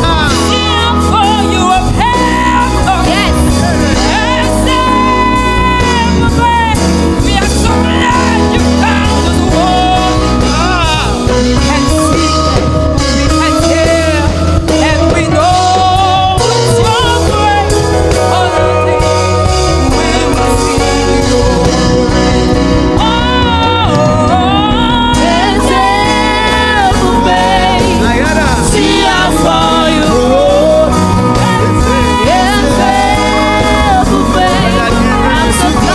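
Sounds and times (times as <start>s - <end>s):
drums: 0.0s - 35.9s
gospel band playing: 0.0s - 35.9s
keyboards: 0.0s - 35.9s
wavering lead melody: 0.0s - 35.9s.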